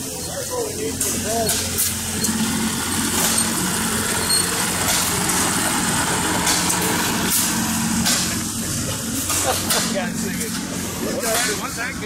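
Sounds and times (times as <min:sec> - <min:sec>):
engine running at low pitch: 0:00.0 - 0:12.0.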